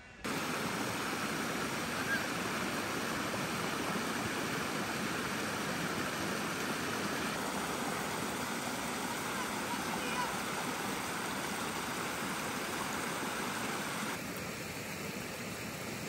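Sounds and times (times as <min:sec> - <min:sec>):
creek water rushing over rocks: 0:00.2 - 0:16.0.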